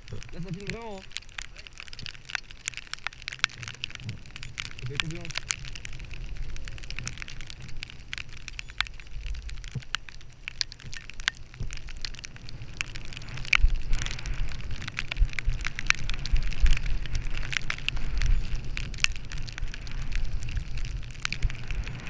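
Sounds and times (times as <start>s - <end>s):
skis sliding over snow: 0.0s - 10.4s, 11.8s - 22.0s
wind rumble on microphone: 0.0s - 22.0s.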